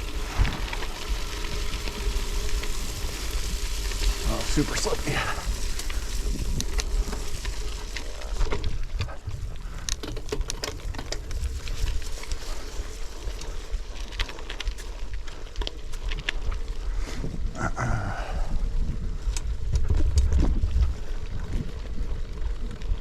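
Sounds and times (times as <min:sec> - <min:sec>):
bike rattling: 0:00.0 - 0:23.0
bike tyres rolling on dirt: 0:00.0 - 0:23.0
wind rumble on microphone: 0:00.0 - 0:23.0.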